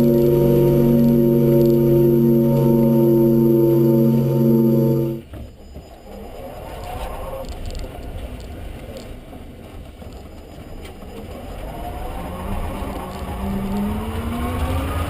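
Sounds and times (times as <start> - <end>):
low road rumble: 0.0 - 15.0.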